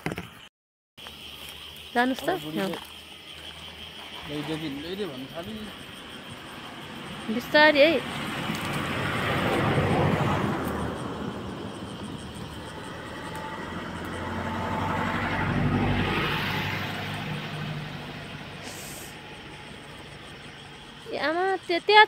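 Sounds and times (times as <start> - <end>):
vehicles passing on road: 1.0 - 22.0.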